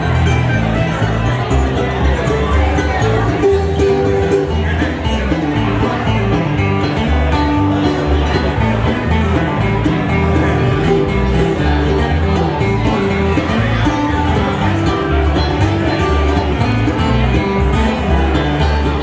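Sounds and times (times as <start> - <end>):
bluegrass band playing: 0.0 - 19.0
upright bass pulsing: 0.0 - 19.0.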